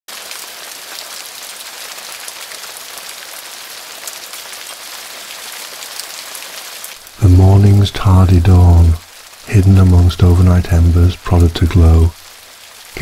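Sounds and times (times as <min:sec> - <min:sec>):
raindrop splashes: 0:00.1 - 0:13.0
steady rain hiss: 0:00.1 - 0:13.0.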